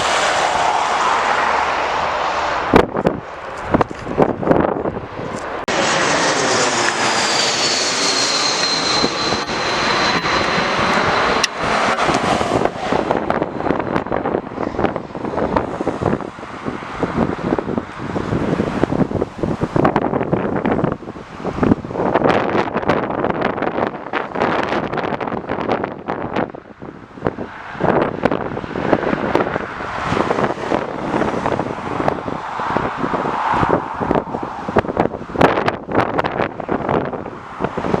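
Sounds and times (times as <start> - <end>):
jet engines passing close by: 0.0 - 38.0
wind buffeting microphone: 0.0 - 38.0.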